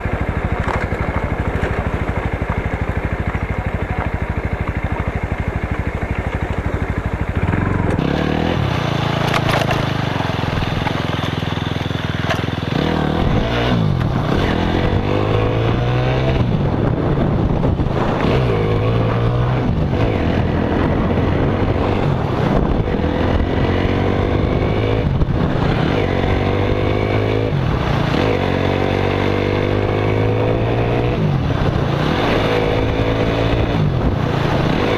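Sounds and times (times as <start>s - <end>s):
motorcycle engine idling and accelerating: 0.0s - 34.9s.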